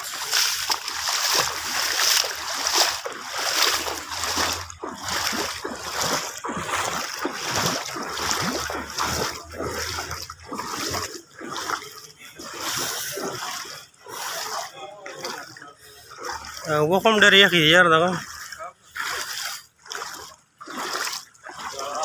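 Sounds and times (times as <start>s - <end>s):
floodwater splashing: 0.0s - 22.0s.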